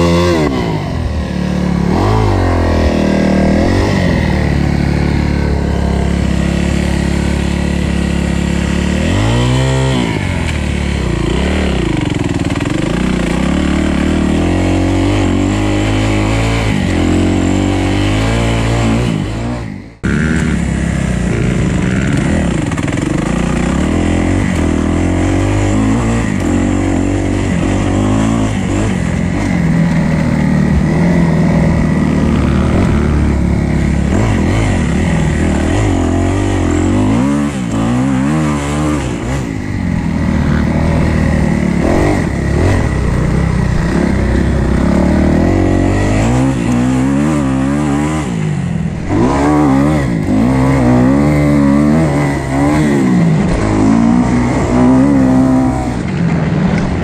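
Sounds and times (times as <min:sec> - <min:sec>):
motocross engine revving: 0:00.0 - 0:57.0.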